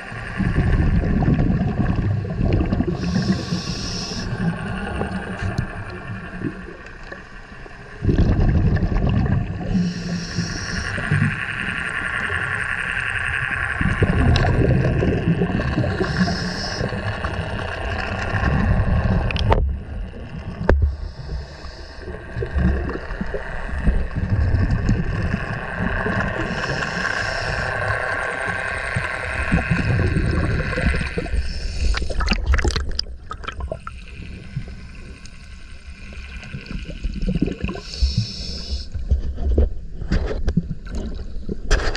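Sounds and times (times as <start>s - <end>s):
exhaled bubbles underwater: 0.0s - 41.9s
muffled underwater rumble: 0.0s - 41.9s.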